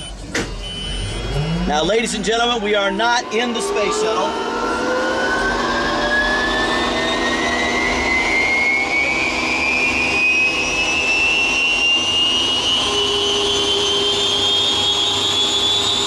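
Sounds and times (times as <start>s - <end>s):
turbine engine whine: 0.0s - 16.0s.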